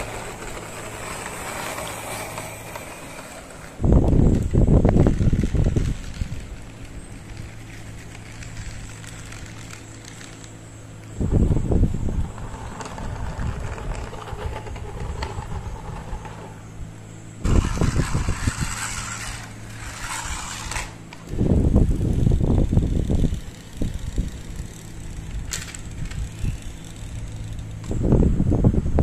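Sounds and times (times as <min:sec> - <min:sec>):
toy wheels rolling and scraping: 0:00.0 - 0:28.1
low hum: 0:00.0 - 0:29.0.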